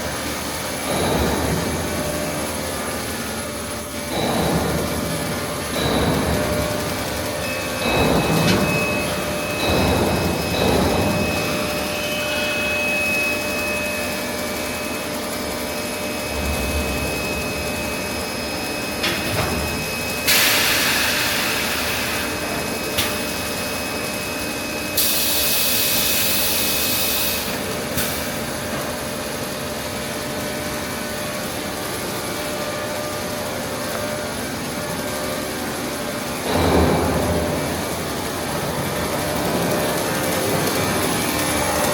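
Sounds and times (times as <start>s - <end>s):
machine drone with whines: 0.0s - 41.9s.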